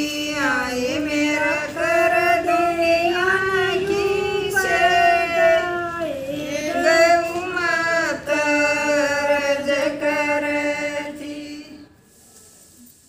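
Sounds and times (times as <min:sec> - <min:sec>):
women singing devotional song: 0:00.0 - 0:12.0.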